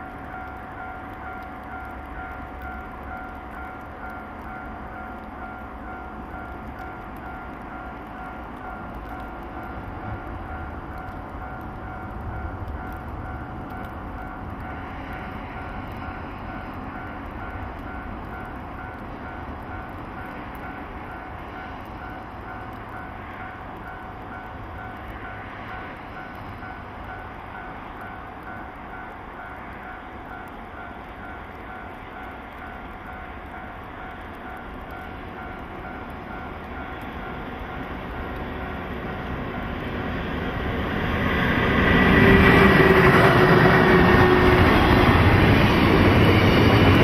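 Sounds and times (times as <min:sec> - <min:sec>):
freight train rumble: 0:00.0 - 0:47.0.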